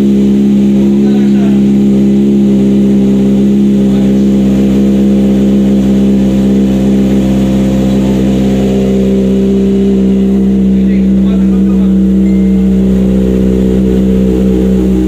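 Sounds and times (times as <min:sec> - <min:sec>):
motorcycle engine idling steadily: 0:00.0 - 0:15.0.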